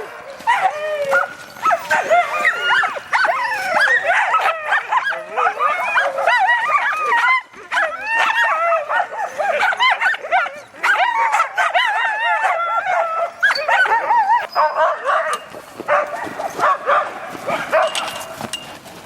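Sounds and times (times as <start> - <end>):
sled dogs yipping and howling: 0.0 - 18.6.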